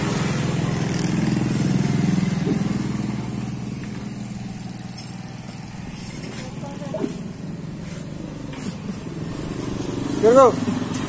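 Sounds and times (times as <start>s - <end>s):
motorcycle passing by: 0.0s - 11.0s.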